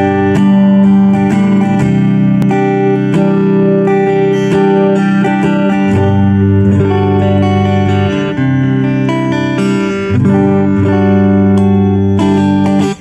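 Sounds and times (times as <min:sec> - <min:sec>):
electric guitar strummed chords: 0:00.0 - 0:13.0.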